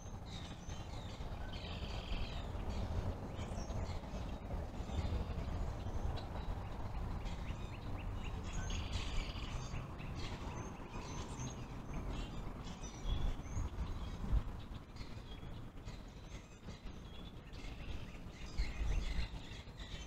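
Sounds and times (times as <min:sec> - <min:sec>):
distant road traffic rumble: 0:00.0 - 0:20.0.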